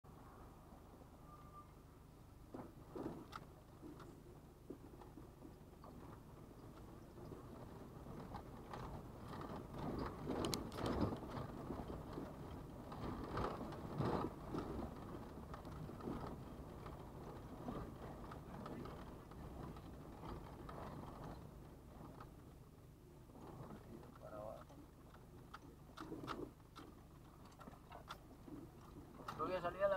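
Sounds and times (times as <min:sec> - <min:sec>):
car driving over cobblestones: 0:02.4 - 0:29.9
rattles and knocks: 0:02.5 - 0:29.9.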